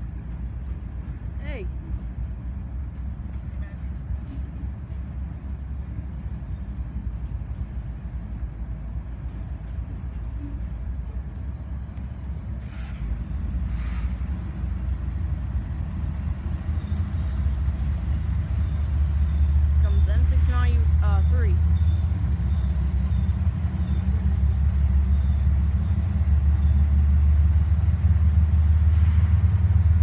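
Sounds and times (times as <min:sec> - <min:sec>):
diesel locomotive rumbling: 0:00.0 - 0:30.0
locomotive bell ringing: 0:01.2 - 0:26.4.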